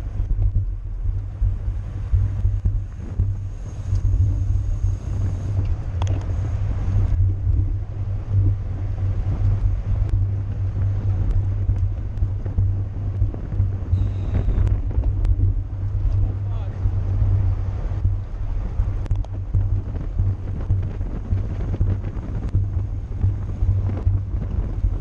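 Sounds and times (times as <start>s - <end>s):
faint ticks: 0.0s - 7.8s, 9.2s - 16.4s, 18.0s - 25.0s
wind buffeting microphone: 0.0s - 25.0s.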